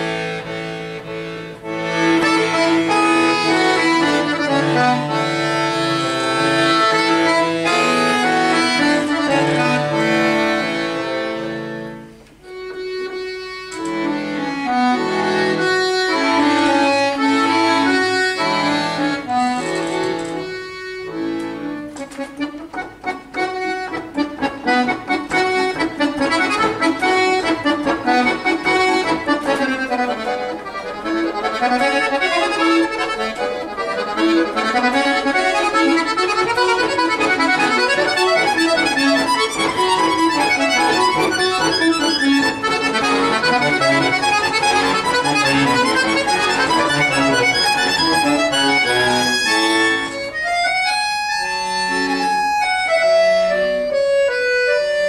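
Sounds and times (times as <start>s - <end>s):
accordion playing: 0.0s - 55.0s.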